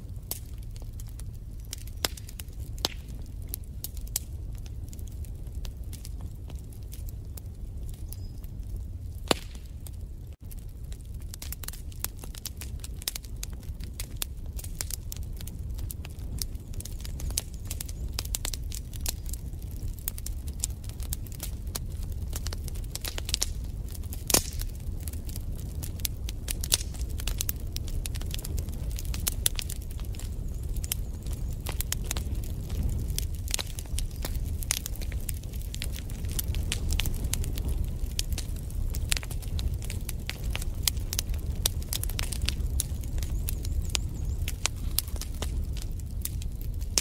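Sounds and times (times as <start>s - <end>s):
wood fire crackling: 0.0s - 47.0s
sharp fire pops: 0.1s - 47.0s.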